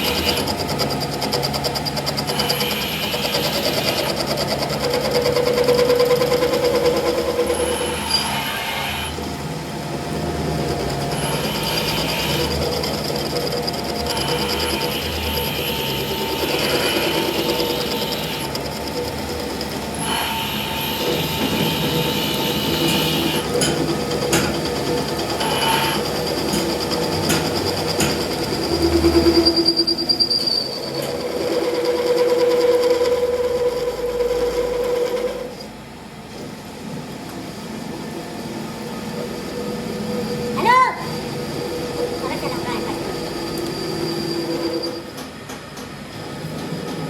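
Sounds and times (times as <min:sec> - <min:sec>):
workshop machinery running: 0:00.0 - 0:47.0.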